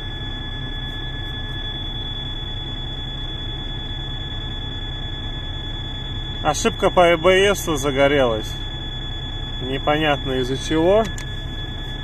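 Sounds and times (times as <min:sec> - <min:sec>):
continuous high warning buzzer: 0:00.0 - 0:12.0
diesel engine idling: 0:00.0 - 0:12.0.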